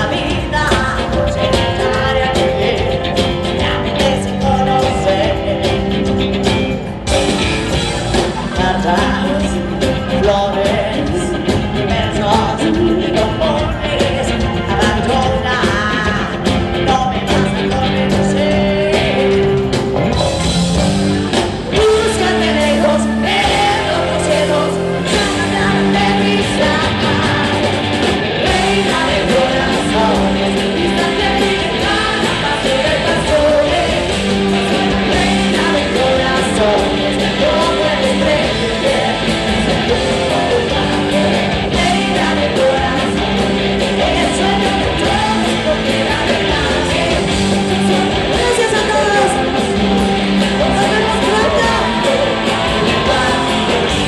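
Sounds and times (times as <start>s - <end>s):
woman singing lead: 0.0s - 20.2s, 21.2s - 54.0s
backing singer: 0.0s - 54.0s
live rock band playing: 0.0s - 54.0s.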